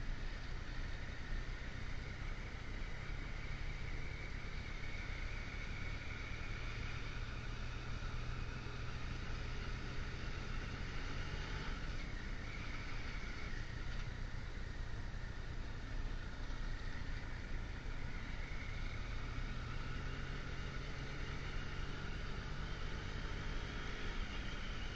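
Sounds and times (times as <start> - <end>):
motorcycle engine running: 0.0 - 24.9
road noise: 0.0 - 24.9.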